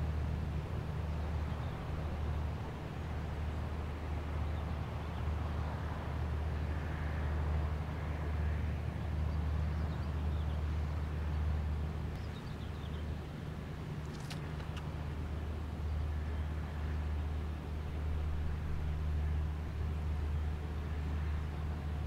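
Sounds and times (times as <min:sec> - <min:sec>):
ship engine drone: 0:00.0 - 0:22.0.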